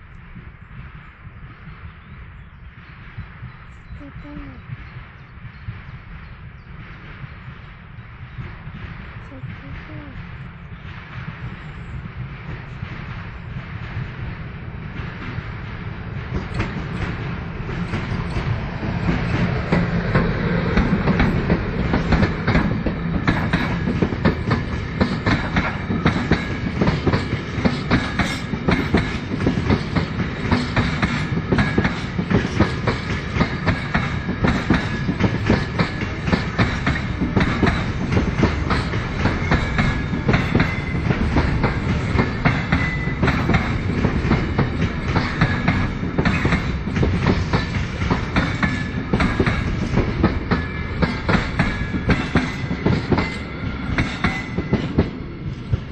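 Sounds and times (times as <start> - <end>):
freight train passing: 0.0 - 55.9
wheels clacking over rails: 4.6 - 55.9.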